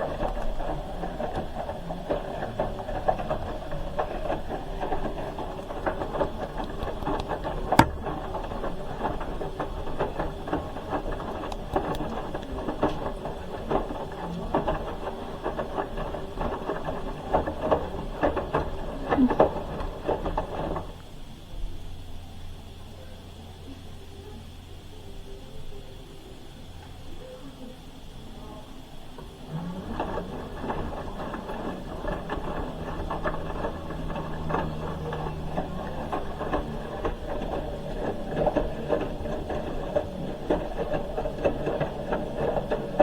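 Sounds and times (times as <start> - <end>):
washing machine drum turning: 0.0 - 21.0, 28.9 - 43.0
load tumbling and sloshing: 0.0 - 21.2, 29.2 - 43.0.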